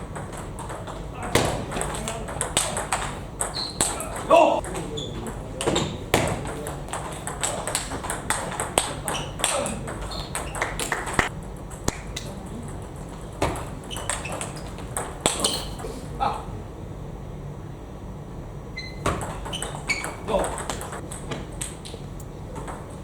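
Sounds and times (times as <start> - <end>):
table tennis ball clicking: 0.0 - 15.8, 19.1 - 23.0.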